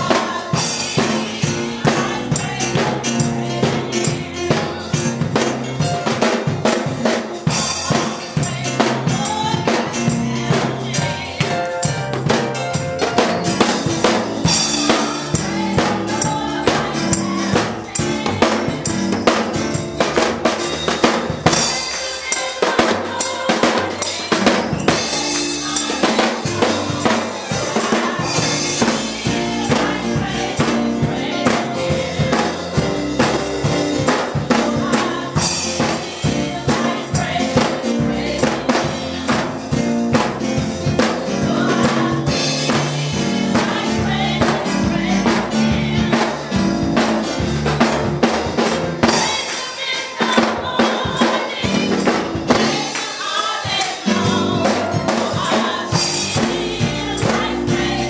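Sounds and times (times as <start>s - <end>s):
drum kit steady beat: 0.0s - 58.0s.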